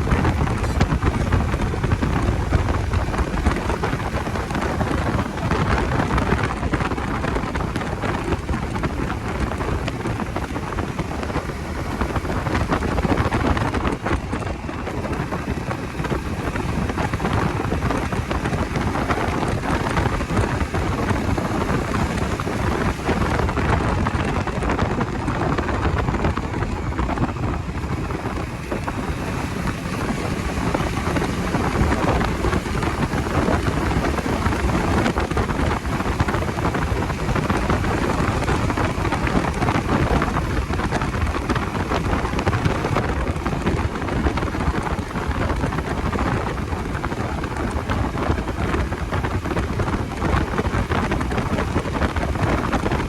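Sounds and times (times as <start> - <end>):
motorcycle engine rumble: 0.0 - 53.0
wind buffeting microphone: 0.0 - 53.0.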